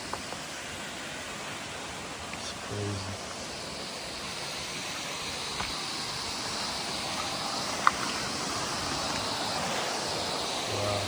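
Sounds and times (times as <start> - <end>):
waterfall pouring into pool: 0.0 - 11.0.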